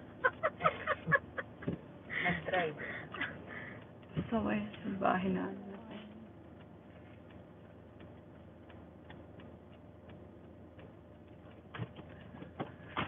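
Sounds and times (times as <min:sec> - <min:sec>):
turn signal relay ticking: 0:00.2 - 0:12.7.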